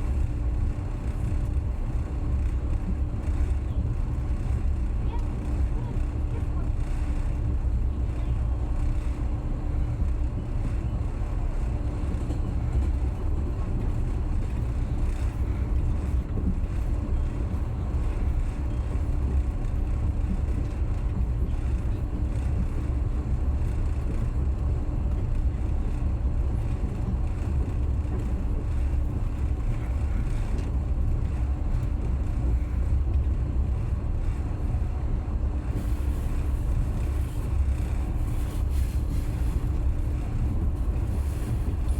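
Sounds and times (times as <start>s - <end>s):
faint constant hum: 0.0s - 41.9s
train rumbling: 0.0s - 41.9s.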